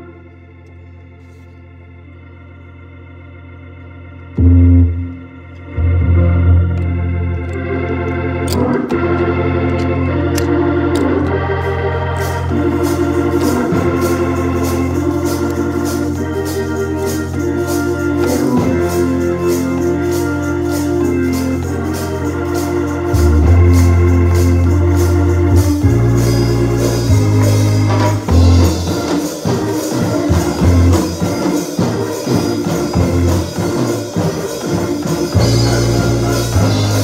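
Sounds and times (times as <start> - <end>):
organ playing sustained chords: 0.0 - 37.0.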